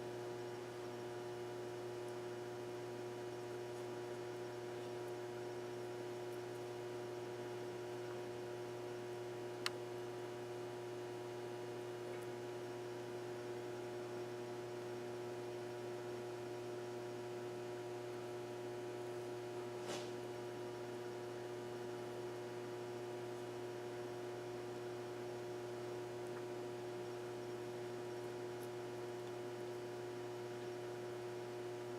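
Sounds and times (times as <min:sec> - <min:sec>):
electrical hum: 0:00.0 - 0:31.9.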